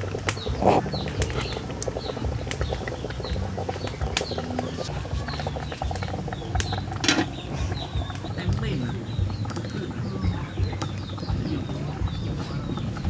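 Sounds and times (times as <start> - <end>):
pot crackling and bubbling: 0.0 - 13.0.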